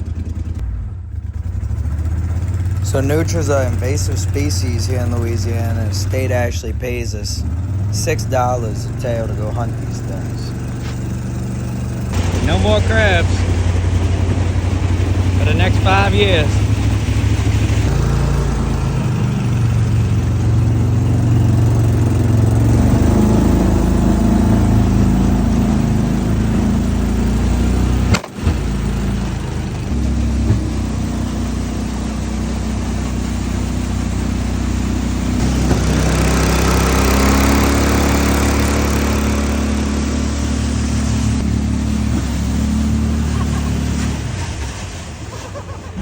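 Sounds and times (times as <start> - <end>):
motor engine running: 0.0 - 46.0.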